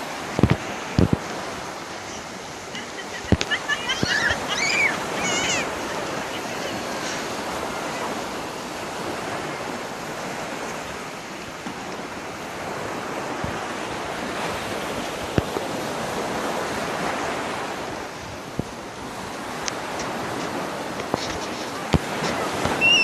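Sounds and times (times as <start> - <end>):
waterfall rushing: 0.0 - 19.4, 20.6 - 23.0.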